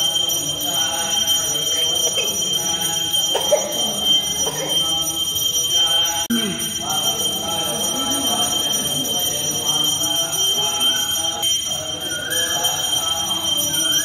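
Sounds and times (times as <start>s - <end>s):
high-pitched ringing tone: 0.0s - 14.0s
voices of people: 0.0s - 14.0s.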